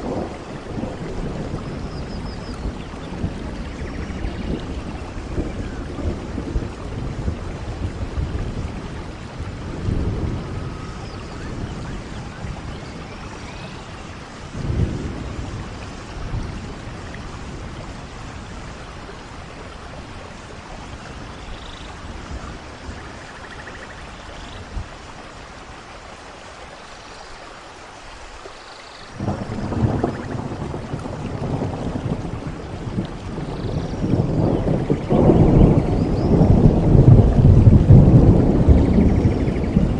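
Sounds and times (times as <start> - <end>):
low rolling thunder: 0.0 - 25.6, 29.1 - 39.9
steady rain: 0.0 - 39.9.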